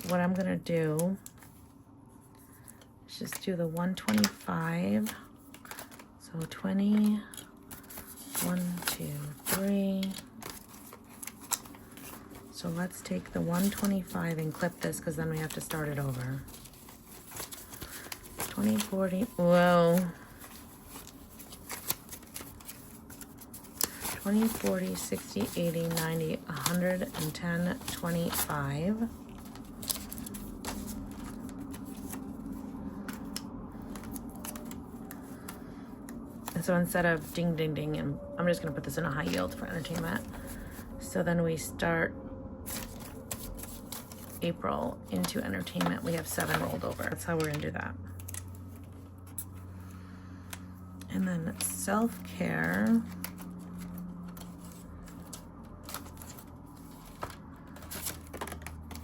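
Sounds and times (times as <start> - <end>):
paper bills rustling: 0.0 - 41.0, 42.6 - 59.0
low hum: 0.0 - 59.0.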